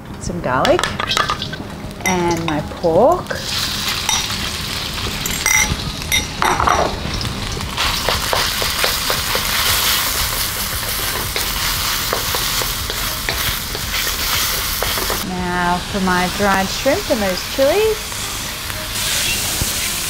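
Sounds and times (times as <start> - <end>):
meat sizzling in a wok: 2.9 - 20.0.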